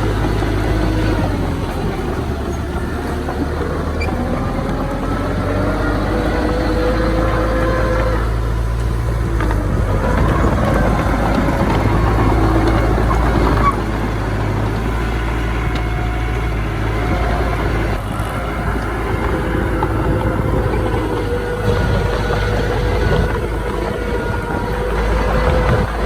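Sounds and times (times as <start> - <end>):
heavy machinery engine rumble: 0.0 - 26.0.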